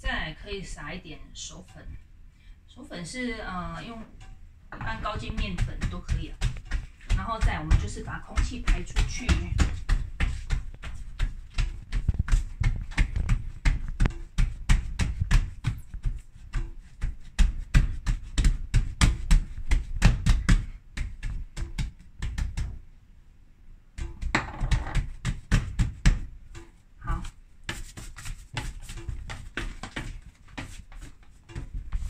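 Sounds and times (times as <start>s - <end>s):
hands patting bread dough: 4.8s - 22.8s, 23.9s - 32.0s.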